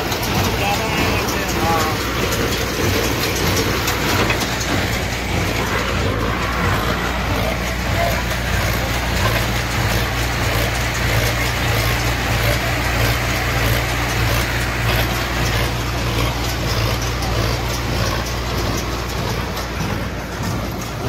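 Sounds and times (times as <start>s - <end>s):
baler mechanism running: 0.0s - 21.0s
tractor engine under load: 0.0s - 21.0s.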